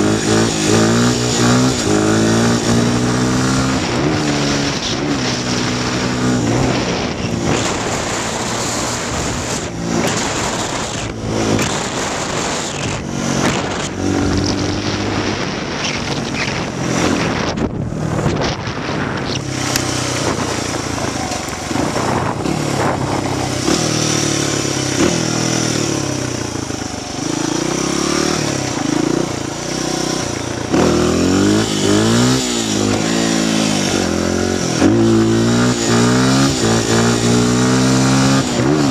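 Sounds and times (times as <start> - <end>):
dirt bike engine revving: 0.0 - 38.9
wind rushing over microphone: 0.0 - 38.9.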